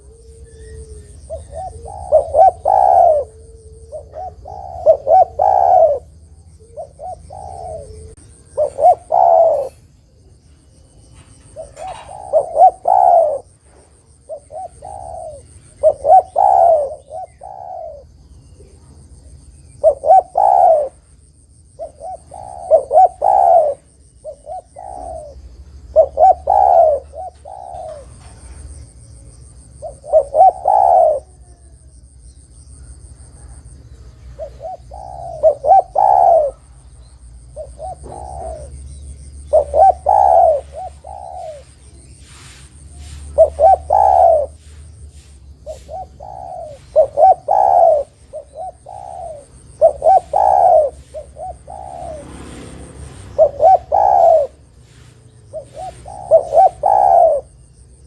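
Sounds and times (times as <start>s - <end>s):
dove cooing: 0.0s - 32.1s, 32.7s - 58.0s.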